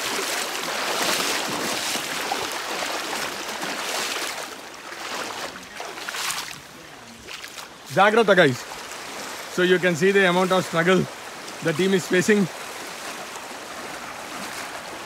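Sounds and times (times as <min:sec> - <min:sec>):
floodwater rushing over a path: 0:00.0 - 0:15.0.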